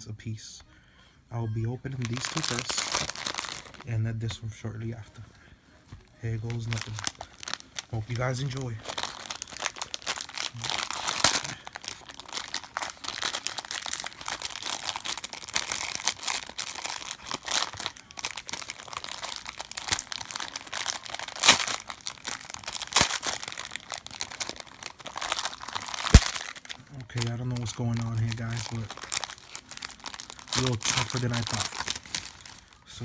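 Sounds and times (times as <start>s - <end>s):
plastic blister pack crinkling: 1.7s - 33.0s.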